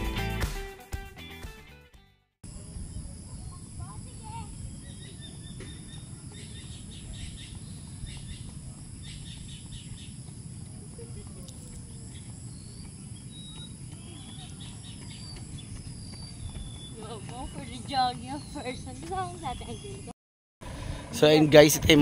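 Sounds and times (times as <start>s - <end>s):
birds chirping: 3.0s - 22.0s.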